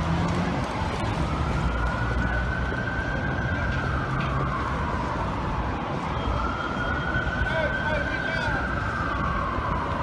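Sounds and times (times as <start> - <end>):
car traffic rumble: 0.0 - 10.0
police siren wailing: 0.0 - 10.0.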